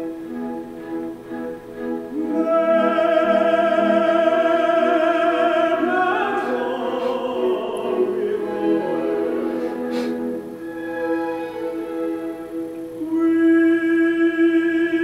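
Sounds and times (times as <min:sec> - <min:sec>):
operatic singing with accompaniment: 0:02.1 - 0:15.0.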